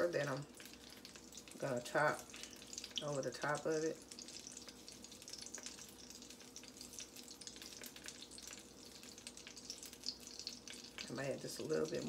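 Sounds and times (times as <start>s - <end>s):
butter sizzling in a skillet: 0.0s - 12.0s.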